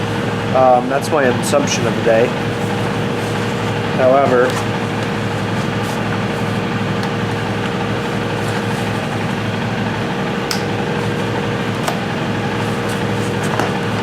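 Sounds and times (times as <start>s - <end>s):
machine droning with whine: 0.0s - 14.0s.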